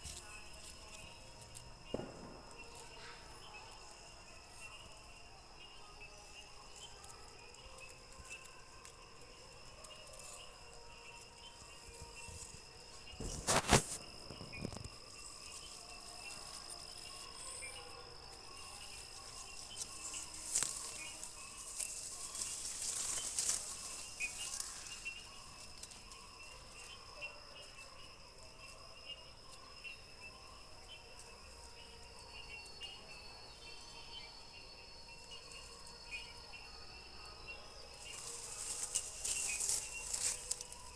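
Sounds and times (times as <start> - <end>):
faint insect chirping: 0.0 - 40.9
insect trilling: 4.7 - 40.9.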